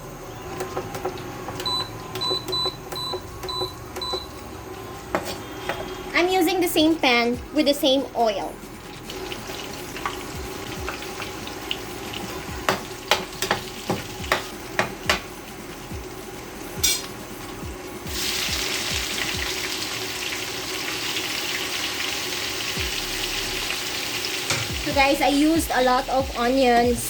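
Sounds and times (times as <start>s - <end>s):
food sizzling in hot oil: 4.3s - 27.0s.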